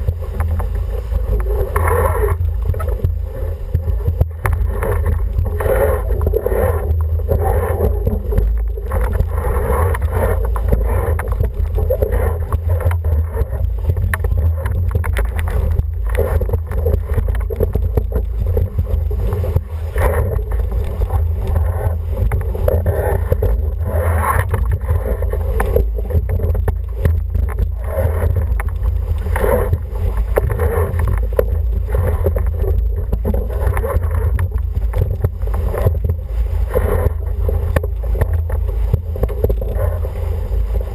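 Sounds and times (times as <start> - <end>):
water splashing against hull: 0.0 - 40.9.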